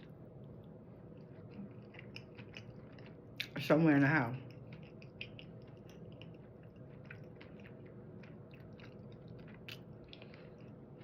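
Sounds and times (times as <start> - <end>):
person chewing food: 0.0 - 3.6, 4.4 - 11.0.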